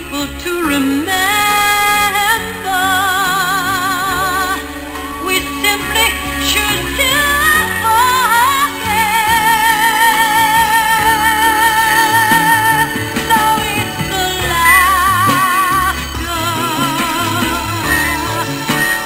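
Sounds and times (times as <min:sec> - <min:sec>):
instrumental accompaniment: 0:00.0 - 0:19.0
singer with wide vibrato: 0:00.0 - 0:19.0.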